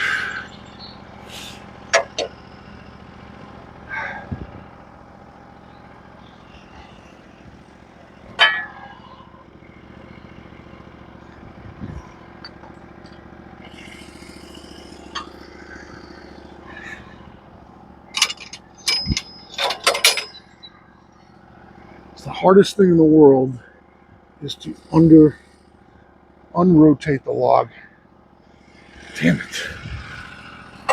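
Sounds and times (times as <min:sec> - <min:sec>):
small engine idling: 0:00.0 - 0:30.9.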